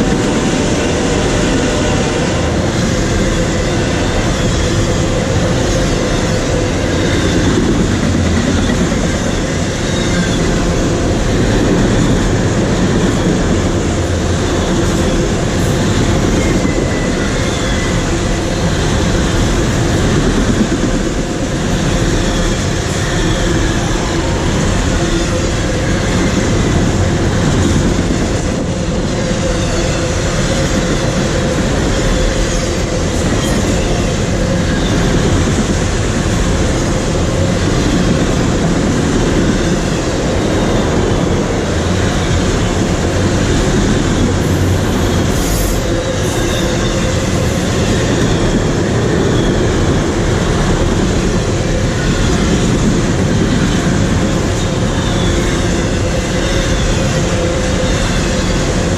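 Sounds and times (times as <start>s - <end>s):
train cars rolling on track: 0.0s - 58.9s.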